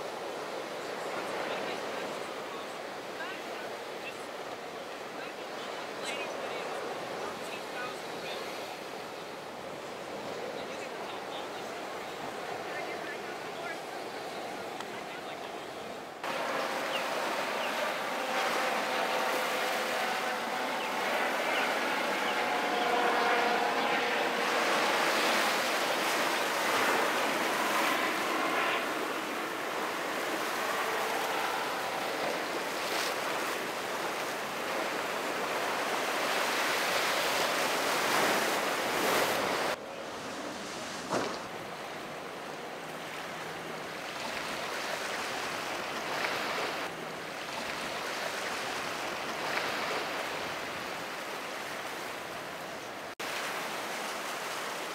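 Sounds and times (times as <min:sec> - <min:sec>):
boat engines running: 0:00.0 - 0:53.8
waves breaking: 0:00.0 - 0:54.9.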